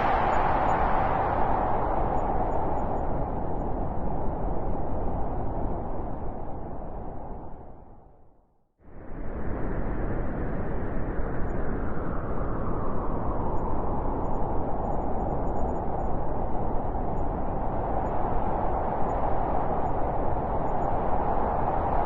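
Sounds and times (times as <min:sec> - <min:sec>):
wind blowing: 0:00.0 - 0:08.3, 0:08.9 - 0:22.0.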